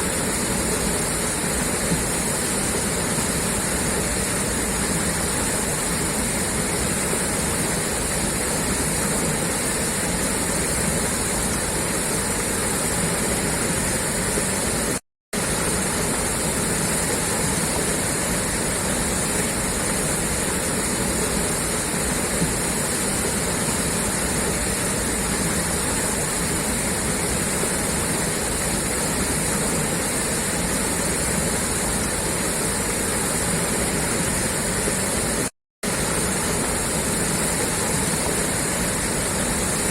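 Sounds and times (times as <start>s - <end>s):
water gushing from a pipe: 0.0s - 39.9s.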